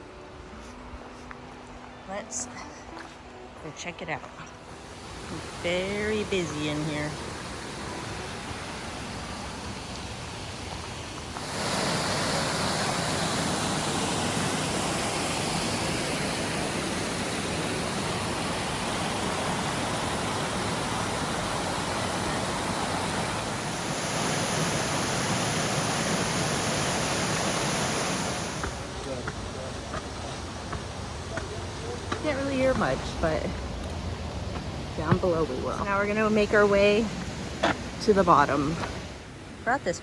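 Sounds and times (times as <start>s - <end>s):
waterfall rushing: 4.7s - 39.3s.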